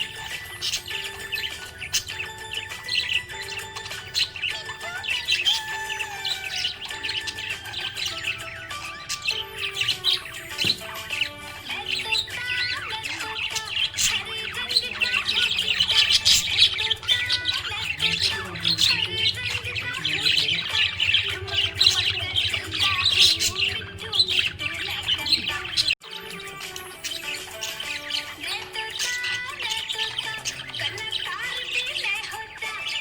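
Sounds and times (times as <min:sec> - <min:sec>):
budgies chirping and warbling: 0:00.0 - 0:33.0.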